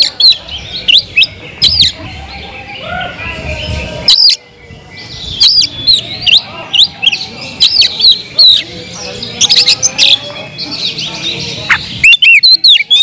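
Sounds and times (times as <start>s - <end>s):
soft bird twittering: 0.0s - 13.0s.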